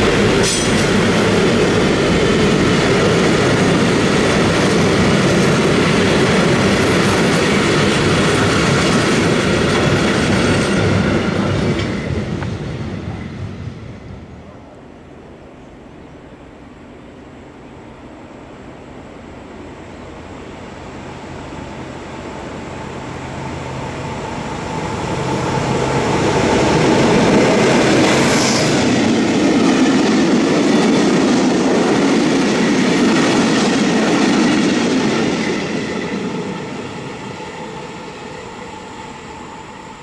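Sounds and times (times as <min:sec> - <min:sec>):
locomotive engine hum: 0:00.0 - 0:40.0
train wheels rumbling: 0:00.0 - 0:40.0.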